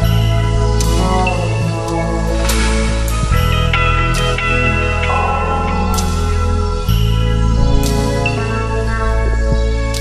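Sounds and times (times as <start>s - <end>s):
sustained music chords: 0.0s - 10.0s.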